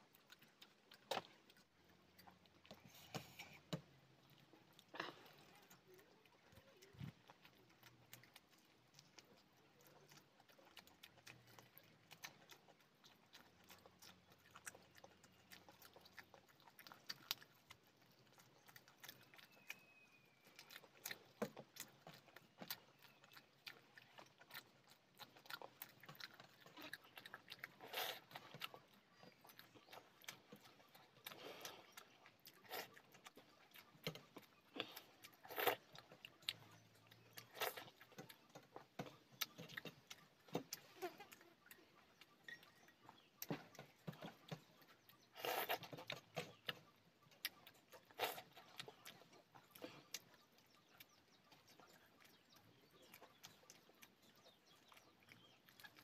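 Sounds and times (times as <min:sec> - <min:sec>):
wet mouth chewing smacks: 0:00.0 - 0:56.0.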